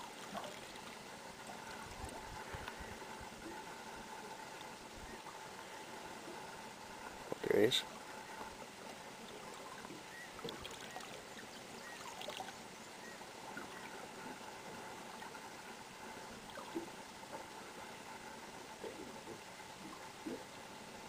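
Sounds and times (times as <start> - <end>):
water lapping against boat hull: 0.0 - 12.7, 13.4 - 21.0.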